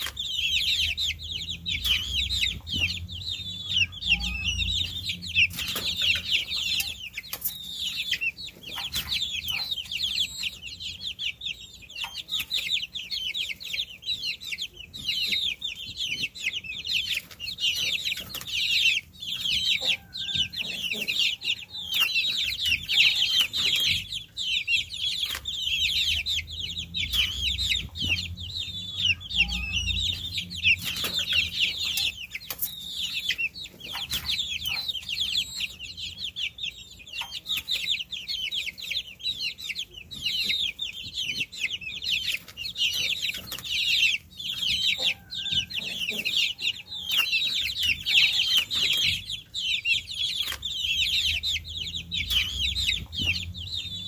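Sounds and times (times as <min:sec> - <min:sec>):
baby chicks peeping: 0:00.0 - 0:54.0.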